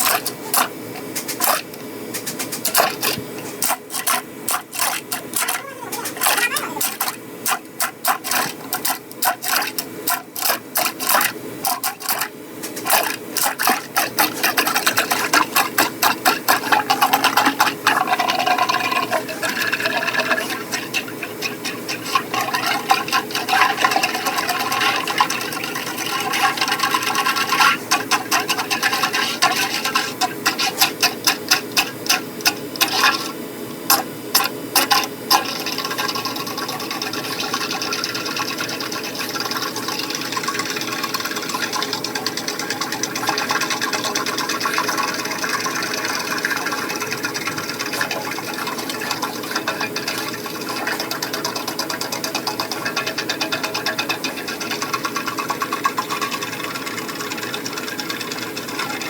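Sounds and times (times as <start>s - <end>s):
drain cleaning machine cable clattering: 0.0s - 59.0s.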